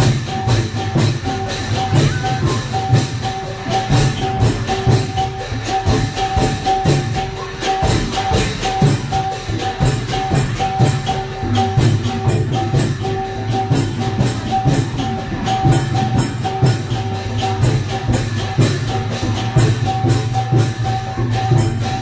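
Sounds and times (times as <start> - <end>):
drums: 0.0 - 22.0
small cymbals clashing: 0.0 - 22.0.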